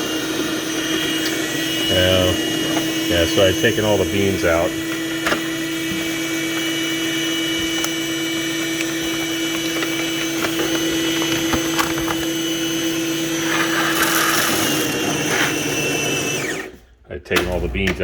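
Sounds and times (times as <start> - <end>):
grinder motor whine: 0.0 - 16.8.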